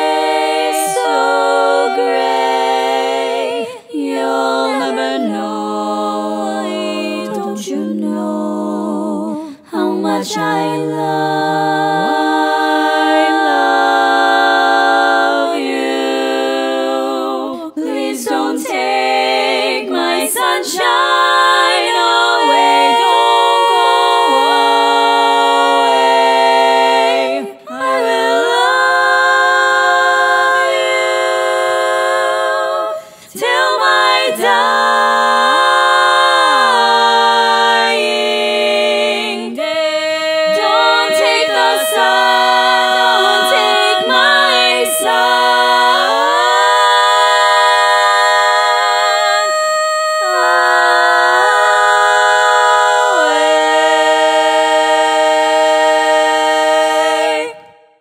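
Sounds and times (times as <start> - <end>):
a cappella barbershop harmony: 0.0 - 58.0.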